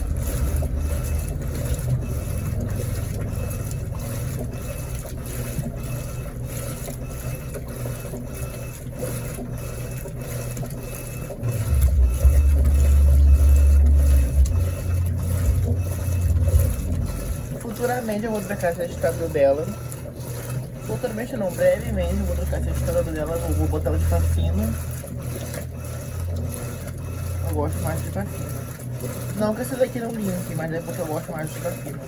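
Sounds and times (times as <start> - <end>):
washing machine motor hum: 0.0 - 32.0
water moving in drum: 0.0 - 32.0.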